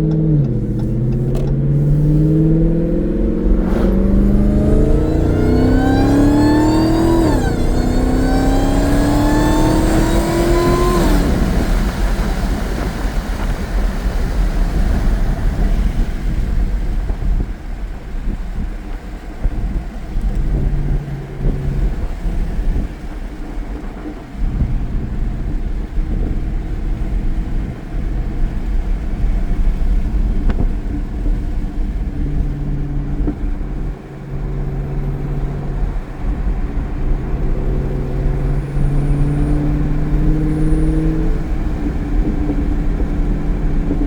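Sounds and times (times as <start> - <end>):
supercharger whine: 0.0 - 18.6, 19.2 - 44.0
car engine accelerating: 0.0 - 44.0
rough exhaust rumble: 0.0 - 44.0.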